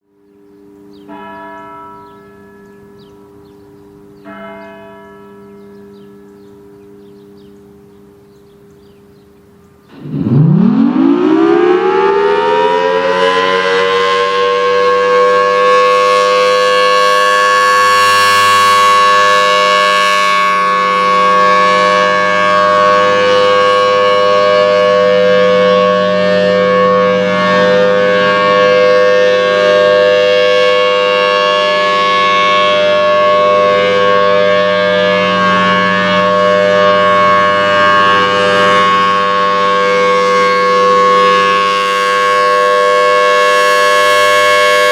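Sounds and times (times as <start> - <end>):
warning siren steady tone: 0.0 - 44.9.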